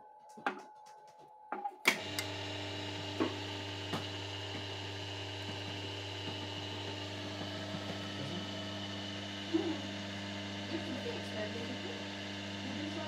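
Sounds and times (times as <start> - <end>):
electric motor humming: 1.9 - 13.0.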